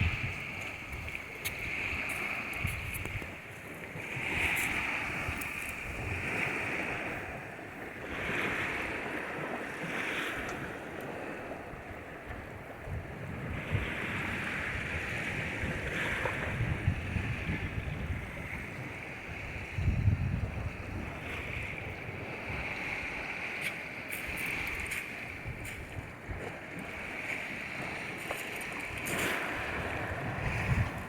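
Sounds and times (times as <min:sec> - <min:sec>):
waves breaking on shore: 0:00.0 - 0:31.0
wind buffeting microphone: 0:00.0 - 0:31.0.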